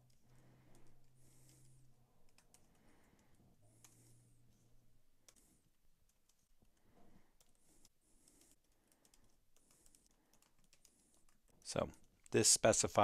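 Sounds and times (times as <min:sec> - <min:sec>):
faint keyboard typing: 0:00.0 - 0:12.5.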